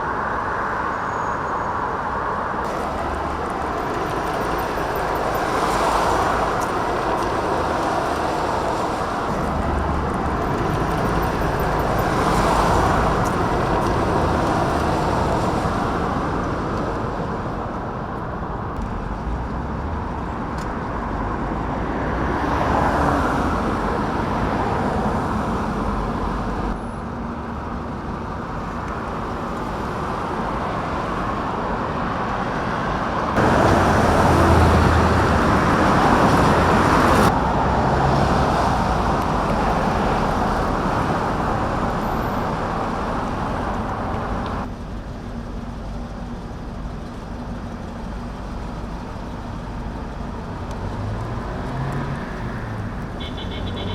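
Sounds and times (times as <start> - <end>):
traffic noise: 0.0 - 53.9.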